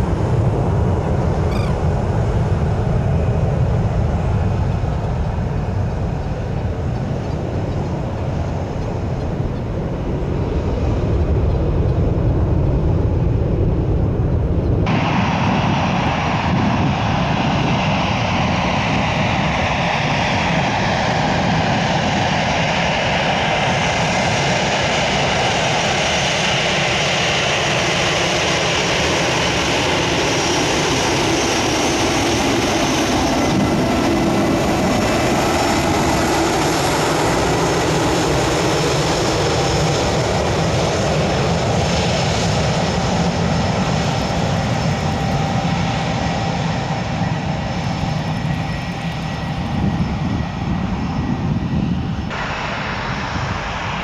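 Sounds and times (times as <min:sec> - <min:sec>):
airliner engines roaring: 0:00.0 - 0:54.0.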